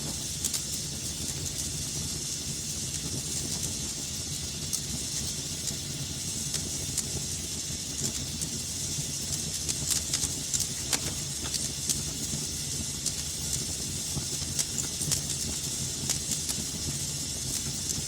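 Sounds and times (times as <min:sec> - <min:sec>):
fire crackles and pops: 0:00.0 - 0:18.0
fire hissing and rumbling: 0:00.0 - 0:18.0.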